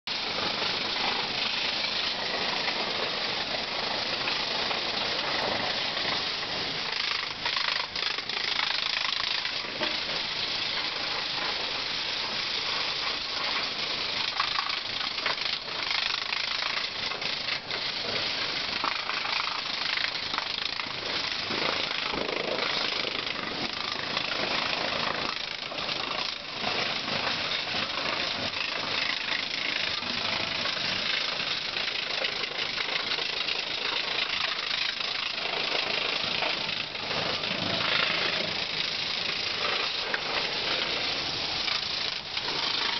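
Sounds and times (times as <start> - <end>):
water jet spraying metal tracks: 0.1 - 42.9.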